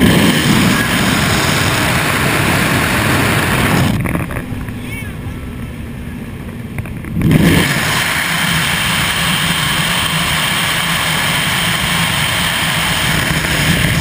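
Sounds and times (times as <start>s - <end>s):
powerboat engine drone: 0.0s - 14.0s
rush of wind and water: 0.0s - 14.0s.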